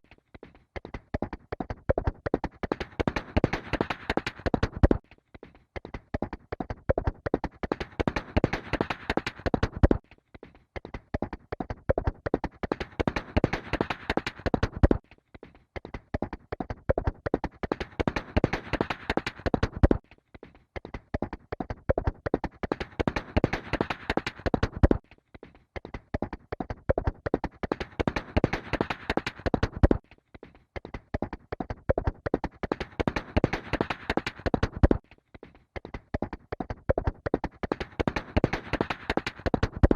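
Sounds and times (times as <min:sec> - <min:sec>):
horse hooves galloping: 0:00.0 - 0:05.0, 0:05.8 - 0:10.0, 0:10.8 - 0:15.0, 0:15.9 - 0:20.0, 0:20.8 - 0:25.0, 0:25.8 - 0:30.0, 0:30.8 - 0:35.1, 0:35.8 - 0:39.9.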